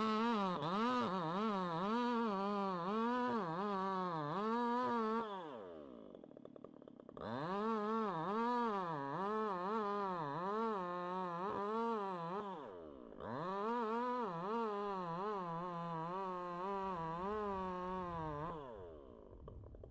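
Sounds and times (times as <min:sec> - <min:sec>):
chainsaw cutting wood: 0:00.0 - 0:19.9.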